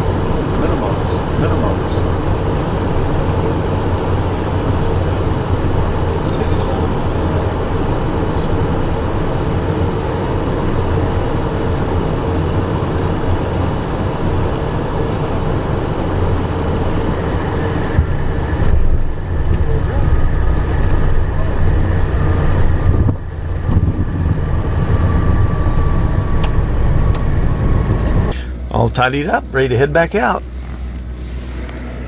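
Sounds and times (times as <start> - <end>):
jet cockpit engine drone: 0.0 - 32.0.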